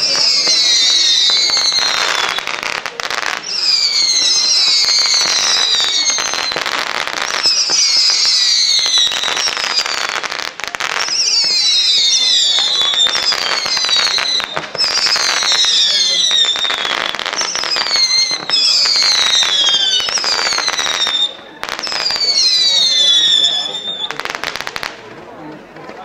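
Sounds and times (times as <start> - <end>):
fireworks whistles falling in pitch: 0.0 - 25.0
fireworks crackling: 0.0 - 26.0.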